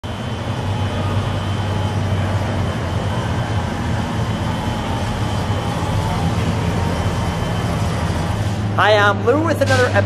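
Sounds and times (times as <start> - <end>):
car engine running low: 0.0 - 10.0.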